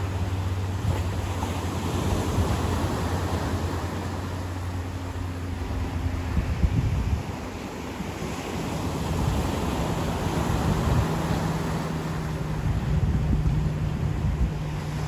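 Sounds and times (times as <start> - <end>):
distant motor humming: 0.0 - 15.0
ocean surf washing on beach: 0.0 - 15.0
wind buffeting microphone: 0.0 - 15.0.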